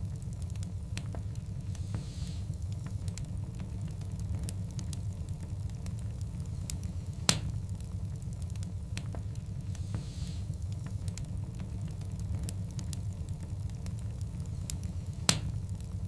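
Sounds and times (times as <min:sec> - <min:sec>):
logs burning in wood fire: 0:00.0 - 0:16.0.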